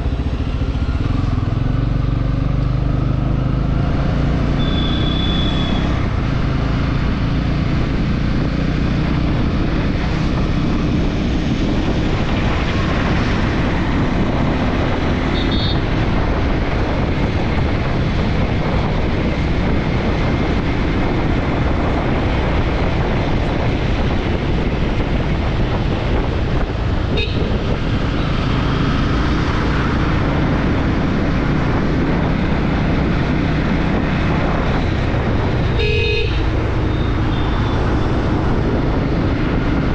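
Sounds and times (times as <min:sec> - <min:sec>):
motorcycle engine and exhaust: 0:00.0 - 0:39.9
wind rushing over microphone: 0:00.0 - 0:39.9.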